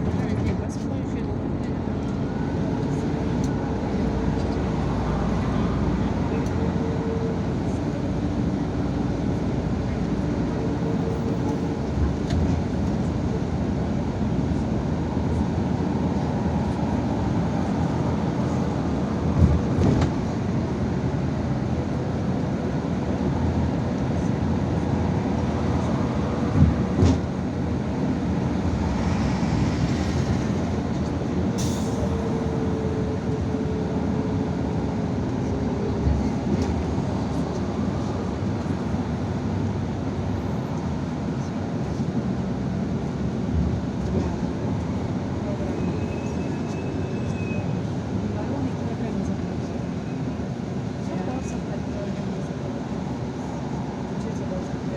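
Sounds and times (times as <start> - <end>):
bus engine and road noise: 0.0 - 54.9.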